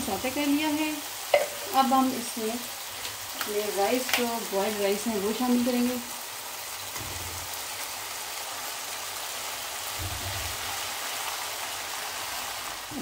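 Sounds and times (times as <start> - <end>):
oil sizzling in a wok: 0.0 - 13.0.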